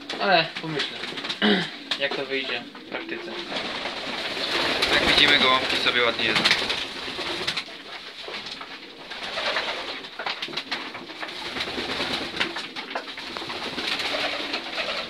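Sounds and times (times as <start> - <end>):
pigeons cooing: 0.0 - 15.0
wing flaps: 0.0 - 15.0.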